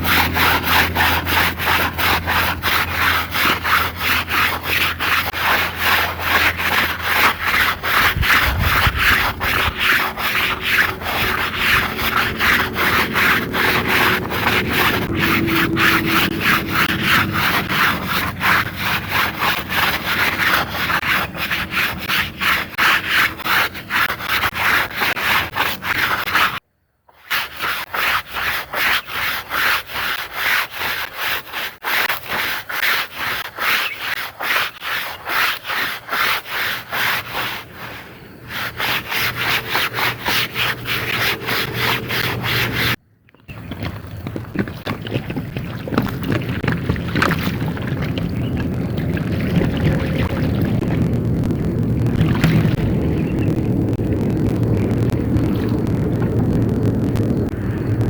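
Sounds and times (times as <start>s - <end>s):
carpet being scrubbed: 0.0s - 52.9s.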